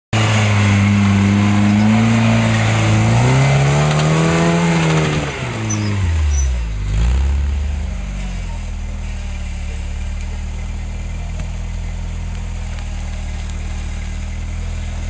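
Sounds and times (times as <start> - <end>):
buggy engine revving: 0.1 - 15.0.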